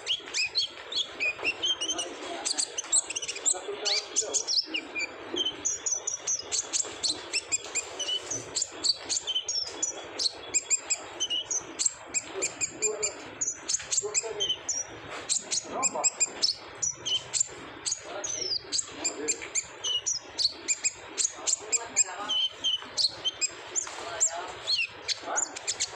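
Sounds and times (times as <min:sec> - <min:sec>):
sunbird singing high chirps: 0:00.0 - 0:25.9.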